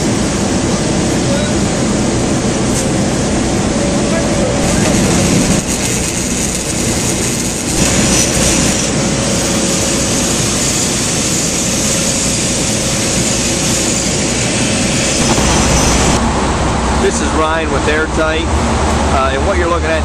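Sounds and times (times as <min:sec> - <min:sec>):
cooler fans running: 0:00.0 - 0:20.0.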